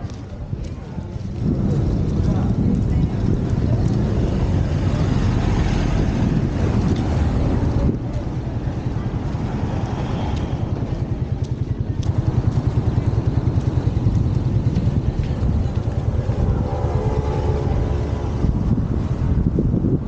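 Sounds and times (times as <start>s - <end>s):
passing vehicle engine rumble: 0.0s - 20.0s.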